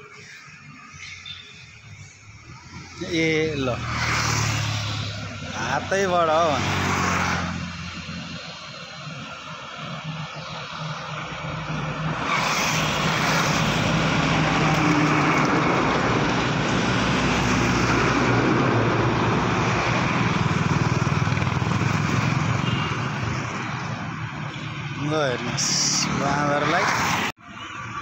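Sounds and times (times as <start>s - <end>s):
trucks passing: 0.0s - 28.0s.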